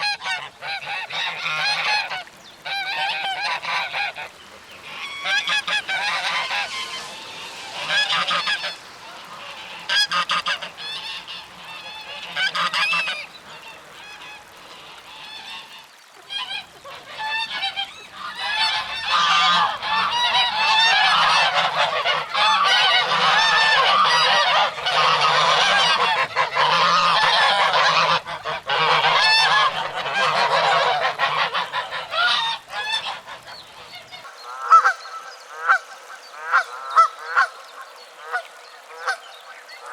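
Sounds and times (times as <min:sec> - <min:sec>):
geese honking: 0:00.0 - 0:35.8.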